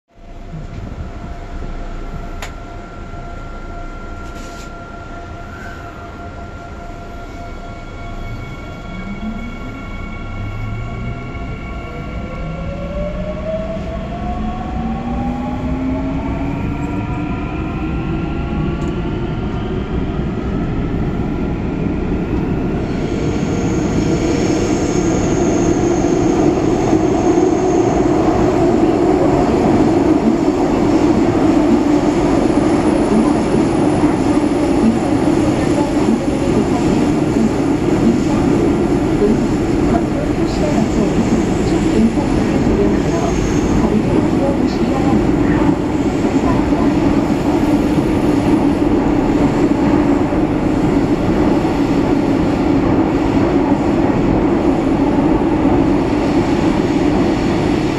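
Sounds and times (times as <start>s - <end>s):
electric train hum: 0.1s - 57.9s.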